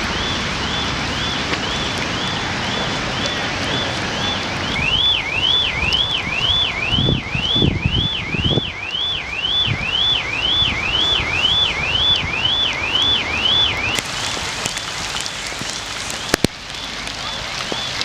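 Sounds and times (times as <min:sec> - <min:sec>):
car alarm whooping: 0:00.0 - 0:18.0
heavy rain: 0:00.0 - 0:18.0.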